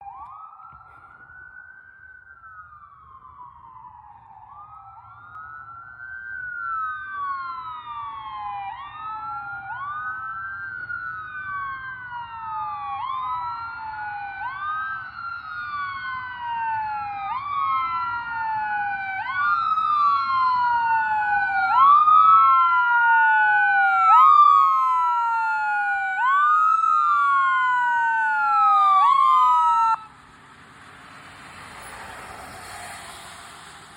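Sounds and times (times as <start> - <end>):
electronic wail sirens: 0.0 - 30.2.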